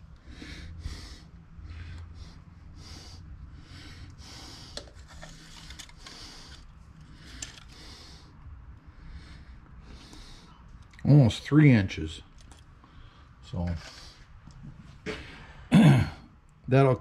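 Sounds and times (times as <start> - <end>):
quiet breathing: 0.0 - 14.4.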